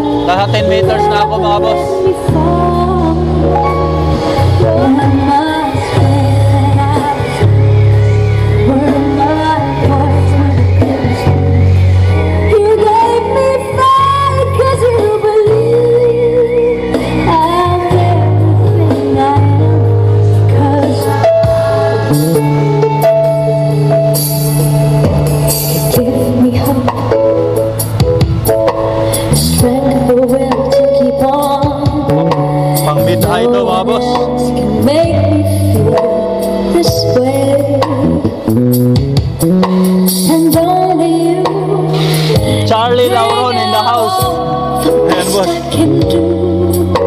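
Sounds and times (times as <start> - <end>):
song with heavy bass through speaker: 0.0 - 47.0.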